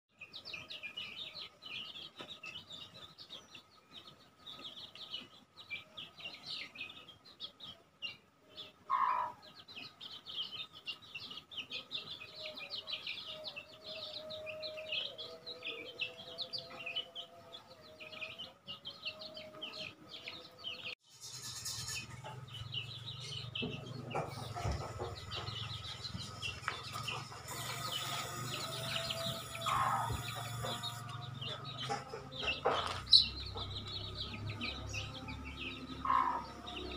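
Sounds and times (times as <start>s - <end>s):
chicks peeping: 0.1s - 36.9s.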